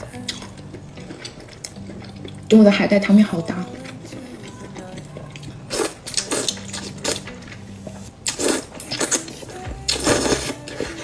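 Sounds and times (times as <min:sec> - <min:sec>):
quiet background music: 0:00.0 - 0:11.0
wet chewing and slurping: 0:00.0 - 0:11.0.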